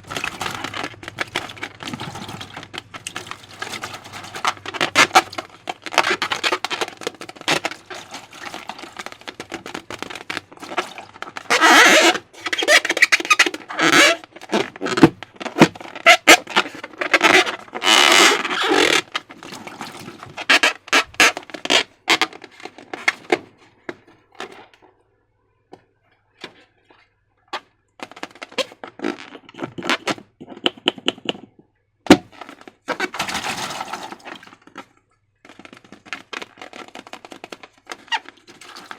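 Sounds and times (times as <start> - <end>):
slime squelching and crackling: 0.0 - 24.8, 26.5 - 38.9.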